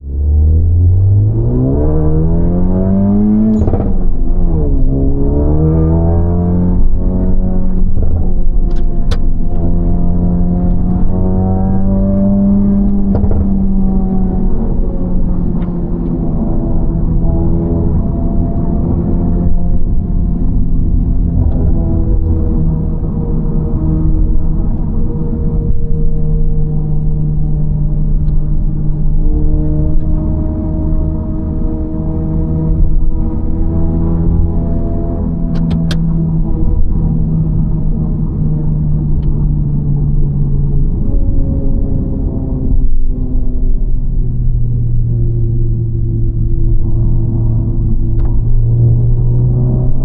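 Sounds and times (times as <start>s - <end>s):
car engine accelerating from cabin: 0.0s - 50.0s.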